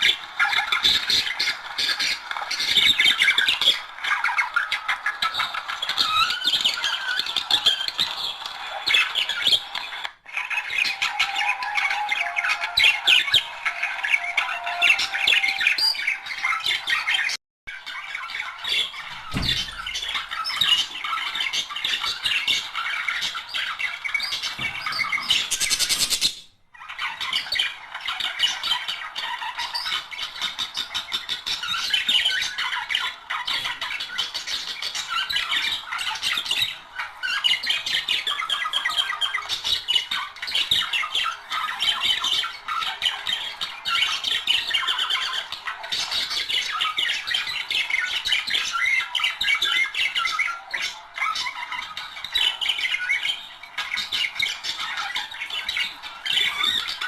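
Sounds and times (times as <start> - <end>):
budgerigars chattering and warbling: 0.0 - 57.0.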